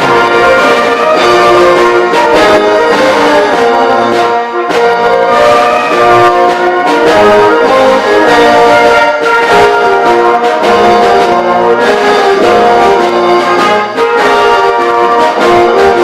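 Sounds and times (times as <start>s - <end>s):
wind band playing brass chords: 0.0s - 16.0s.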